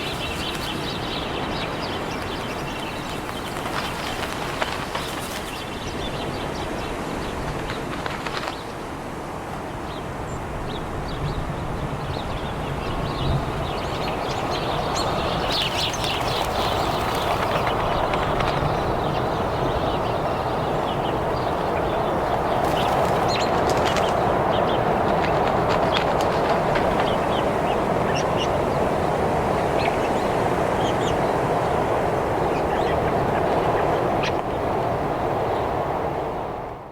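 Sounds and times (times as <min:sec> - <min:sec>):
birds chirping: 0:00.0 - 0:08.7, 0:12.0 - 0:35.9
steady rushing noise: 0:00.0 - 0:08.9, 0:12.8 - 0:36.9.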